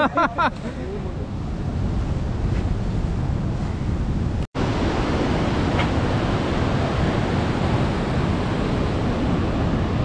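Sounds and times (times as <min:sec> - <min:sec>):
wind rushing on microphone: 0:00.0 - 0:10.0.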